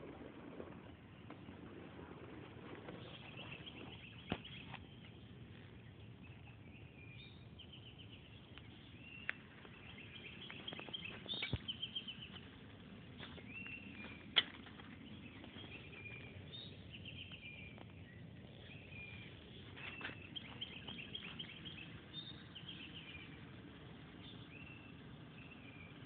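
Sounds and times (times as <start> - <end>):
birds chirping and trilling: 0.2 - 26.0.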